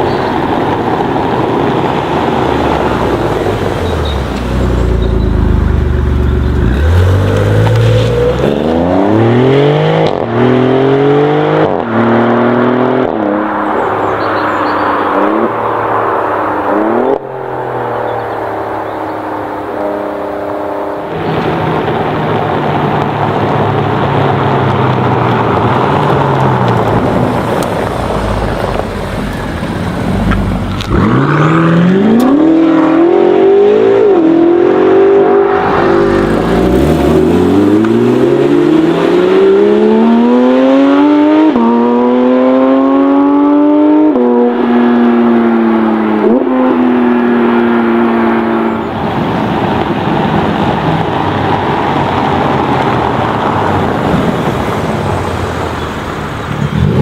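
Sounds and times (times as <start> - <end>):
car engine revving: 0.7 - 57.0.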